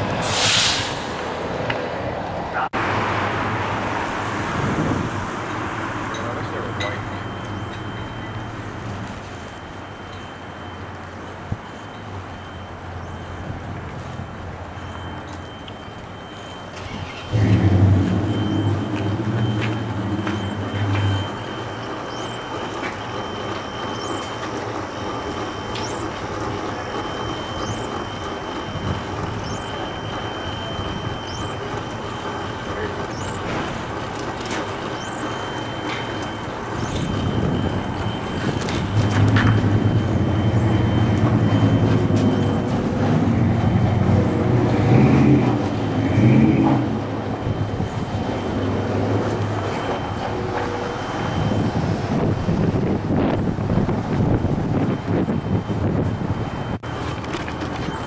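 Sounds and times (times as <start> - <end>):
diesel engine idling: 2.5 - 58.0
steady high tone: 5.4 - 58.0.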